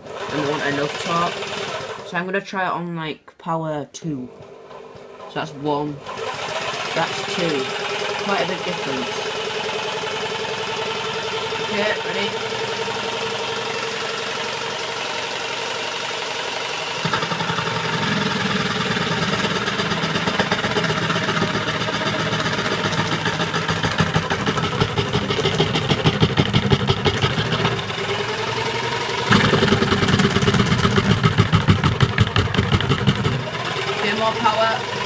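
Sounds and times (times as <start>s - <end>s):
jigsaw blade cutting wood: 0.0s - 2.1s, 6.0s - 35.0s
jigsaw motor humming: 0.0s - 2.1s, 6.0s - 35.0s.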